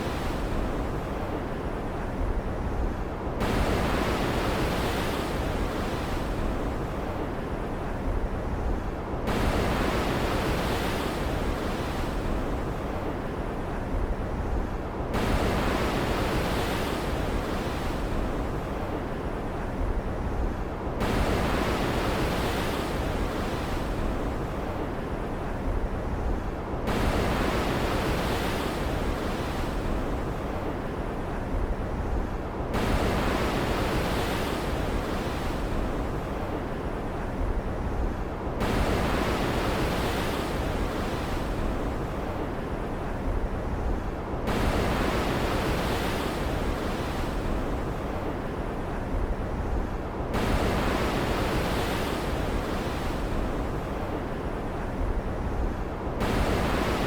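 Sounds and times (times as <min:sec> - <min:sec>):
stormy ocean waves surging: 0:03.4 - 0:57.0.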